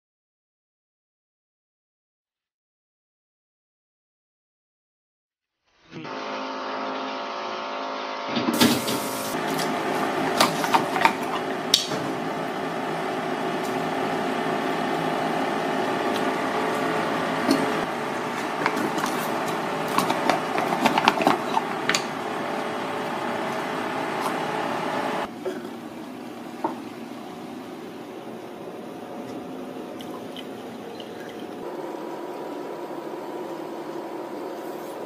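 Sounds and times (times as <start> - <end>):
steady hum: 6.0 - 35.0.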